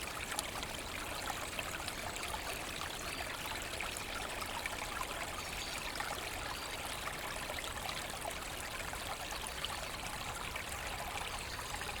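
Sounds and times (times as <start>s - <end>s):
brook trickling over stones: 0.0s - 12.0s.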